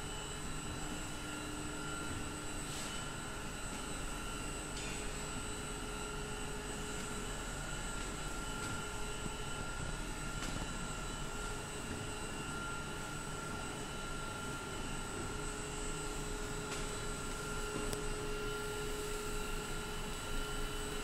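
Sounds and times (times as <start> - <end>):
electric motor hum with whine: 0.0 - 21.0.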